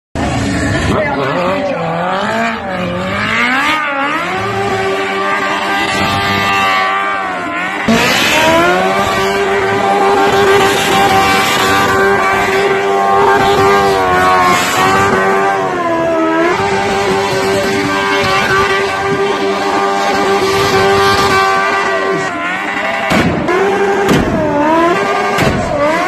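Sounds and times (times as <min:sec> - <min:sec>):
motorcycle engine revving high: 0:00.2 - 0:26.0.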